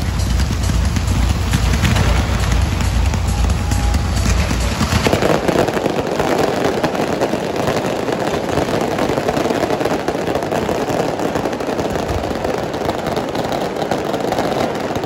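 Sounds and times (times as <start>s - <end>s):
fireworks crackling and fizzing: 0.0s - 15.0s.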